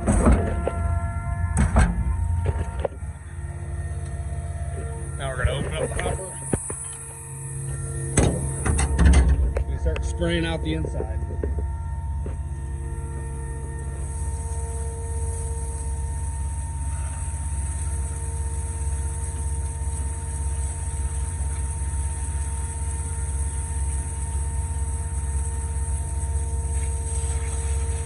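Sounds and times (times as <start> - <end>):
pump engine rumbling: 0.0 - 28.0
steady high hiss: 2.9 - 28.0.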